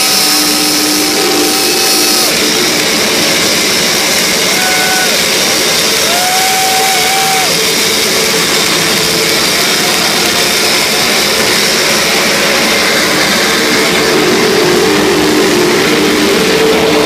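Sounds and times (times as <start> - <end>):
distorted electric guitar noise: 0.0 - 17.0
high feedback tone: 0.0 - 17.0.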